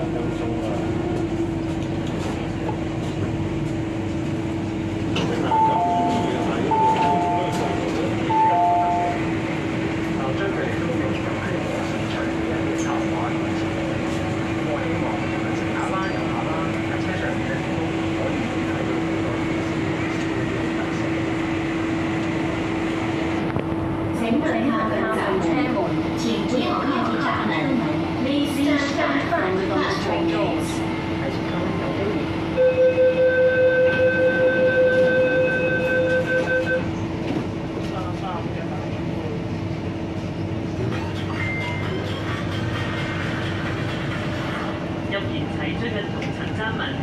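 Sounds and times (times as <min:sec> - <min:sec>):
train car hum: 0:00.0 - 0:47.0.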